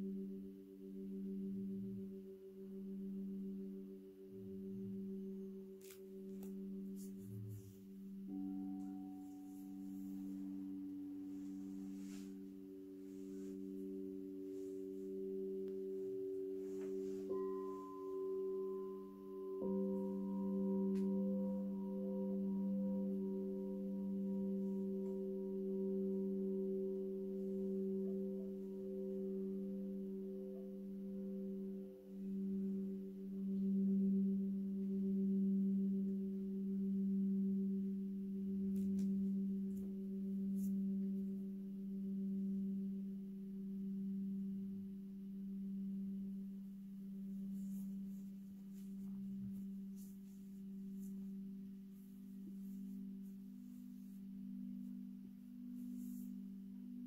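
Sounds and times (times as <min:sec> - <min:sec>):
crystal singing bowls ringing: 0:00.0 - 0:57.0.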